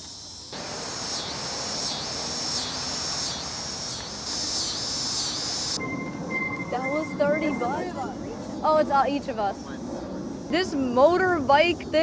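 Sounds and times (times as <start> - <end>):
insects calling: 0.0 - 12.0.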